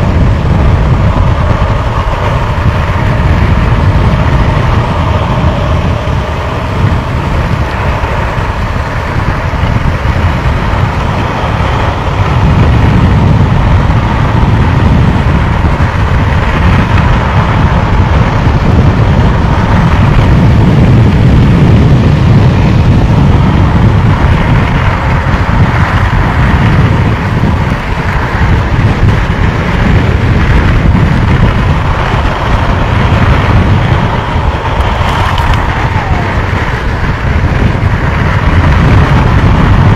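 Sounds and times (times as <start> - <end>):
wheels rolling on asphalt: 0.0 - 39.9
wind buffeting microphone: 0.0 - 39.9.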